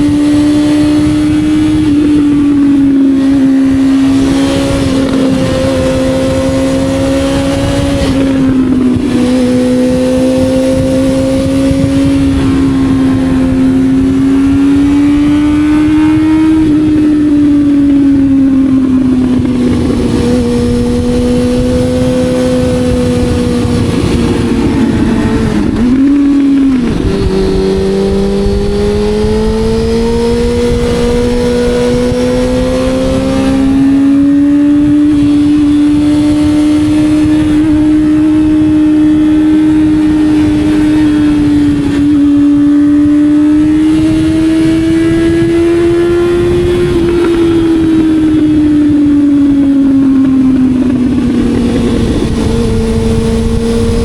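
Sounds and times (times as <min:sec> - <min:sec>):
motorcycle engine at speed: 0:00.0 - 0:54.0.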